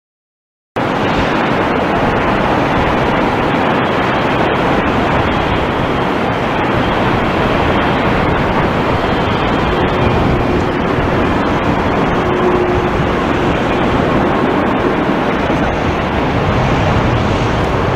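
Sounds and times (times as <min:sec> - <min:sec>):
jet engine rush: 0:00.8 - 0:17.9.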